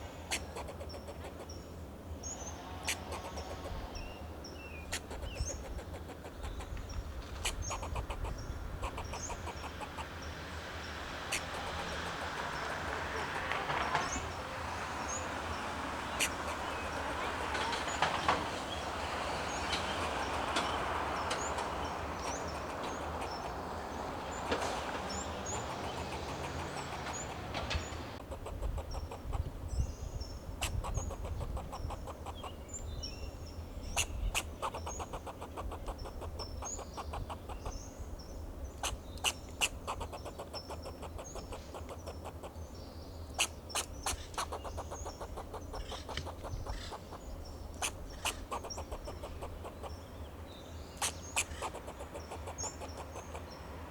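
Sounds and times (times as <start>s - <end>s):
squirrel alarm barks: 0.2s - 1.6s, 2.7s - 4.0s, 4.8s - 29.6s, 30.5s - 32.7s, 33.8s - 37.9s, 38.8s - 42.6s, 43.3s - 50.2s, 51.0s - 53.9s.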